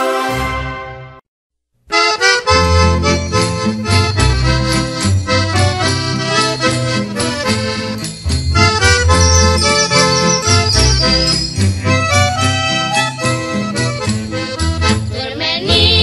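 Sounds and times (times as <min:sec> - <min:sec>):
instrumental music with bass beat: 0:02.0 - 0:15.1.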